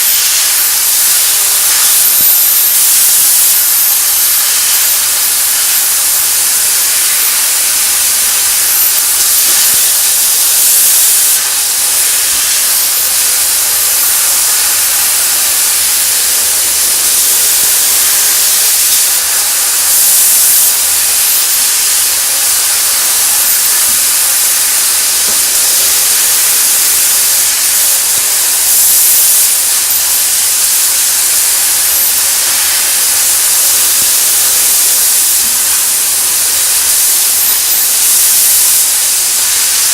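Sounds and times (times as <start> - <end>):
laser cutter gas jet hiss: 0.0 - 39.9.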